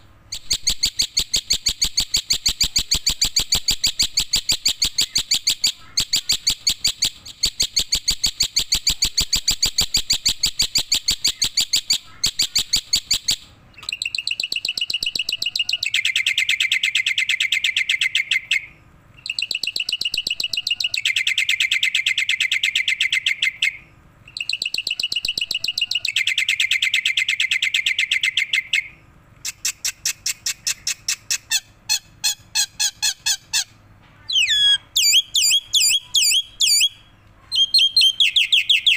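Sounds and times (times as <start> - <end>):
bird singing chirps: 0.0 - 31.6, 32.2 - 38.9.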